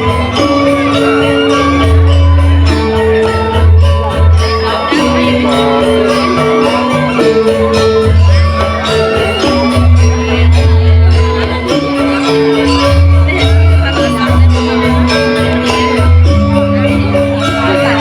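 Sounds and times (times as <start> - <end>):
gamelan music: 0.0 - 18.0.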